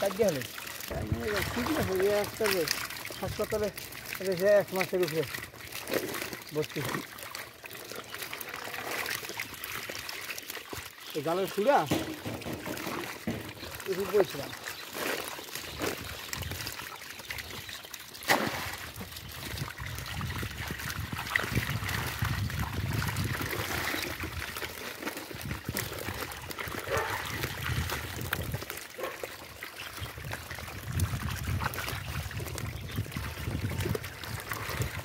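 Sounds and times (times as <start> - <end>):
water trickling and splashing: 0.0 - 35.0.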